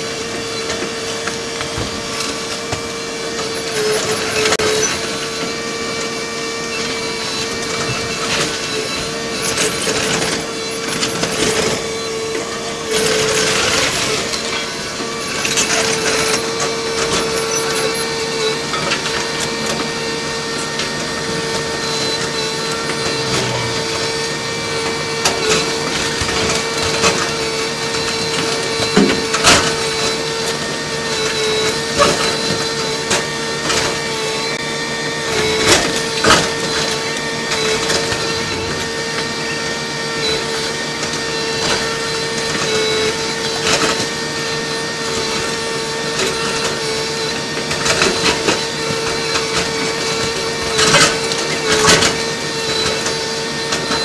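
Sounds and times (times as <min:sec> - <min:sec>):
hydraulic excavator whine: 0:00.0 - 0:54.0.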